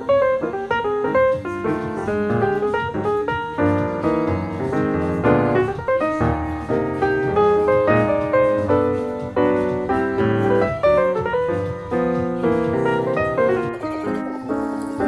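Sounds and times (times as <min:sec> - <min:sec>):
brisk piano tune: 0:00.0 - 0:15.0.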